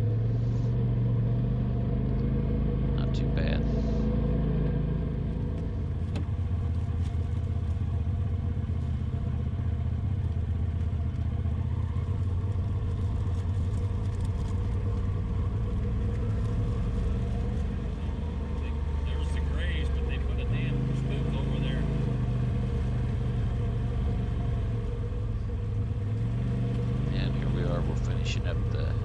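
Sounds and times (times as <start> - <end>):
vehicle engine running steadily: 0.0 - 29.0.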